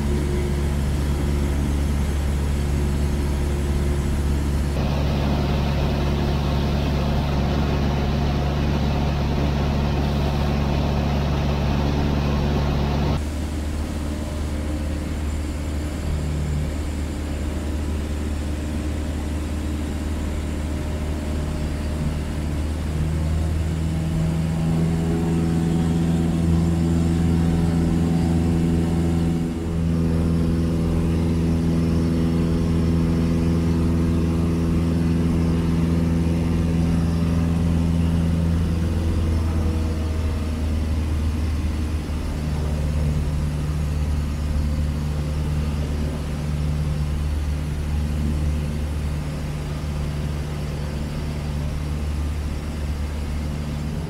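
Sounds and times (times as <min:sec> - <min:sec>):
small plane engine from cabin: 0:00.0 - 0:54.0.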